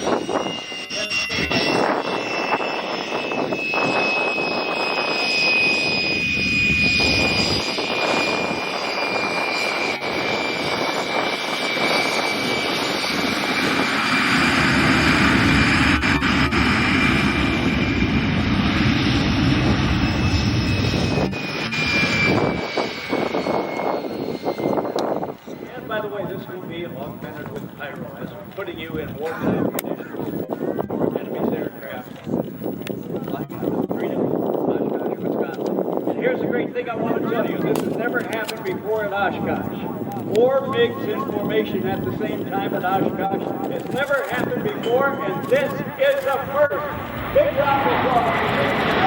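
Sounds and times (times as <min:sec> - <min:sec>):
high jet whine: 0:00.0 - 0:49.0
jet fighters roaring in flyby: 0:00.0 - 0:49.0.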